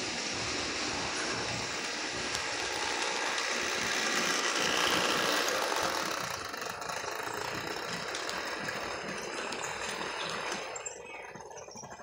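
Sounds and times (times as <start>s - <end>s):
toy train motor whirring: 0.0s - 12.0s
toy train wheels rattling: 0.0s - 12.0s.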